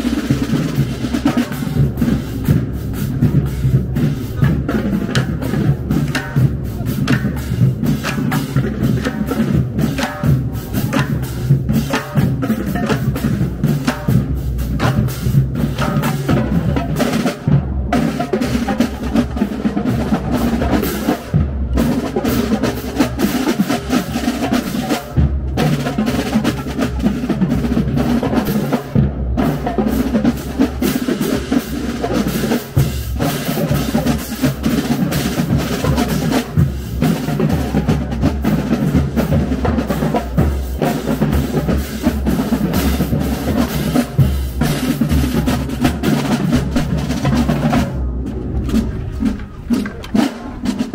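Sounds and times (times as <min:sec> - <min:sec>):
drumline playing snare and tenor drums: 0:00.0 - 0:50.9.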